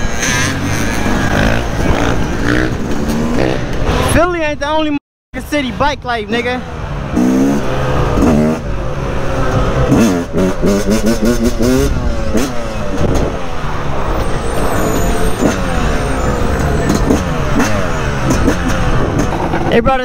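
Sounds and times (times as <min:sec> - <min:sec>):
dirt bike engine revving: 0:00.0 - 0:04.3, 0:06.8 - 0:20.0.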